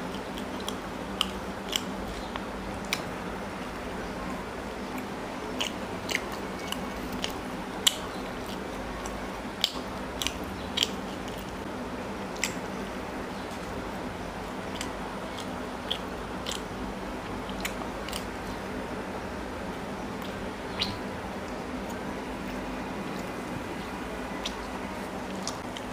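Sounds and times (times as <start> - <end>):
person chewing food: 0.0 - 18.8, 19.6 - 25.9.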